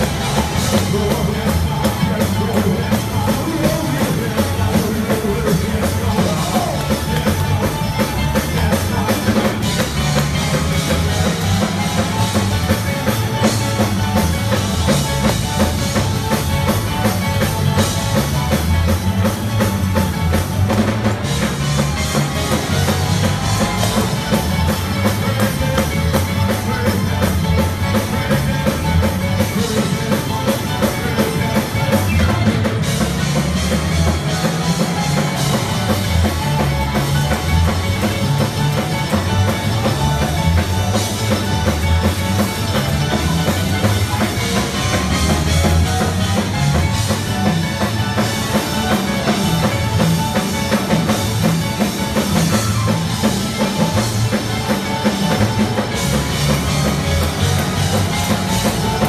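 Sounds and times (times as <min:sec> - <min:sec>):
band playing loud music: 0:00.0 - 0:59.0
bass line: 0:00.0 - 0:59.0
drum kit beat: 0:00.0 - 0:59.0.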